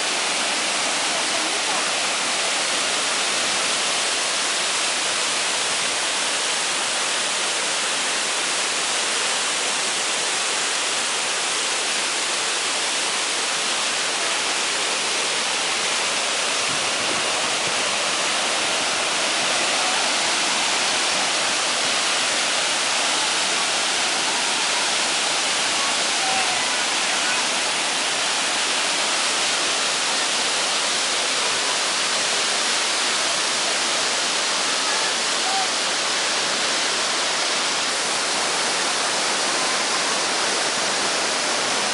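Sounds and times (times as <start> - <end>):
waterfall pouring onto rocks: 0.0 - 41.9.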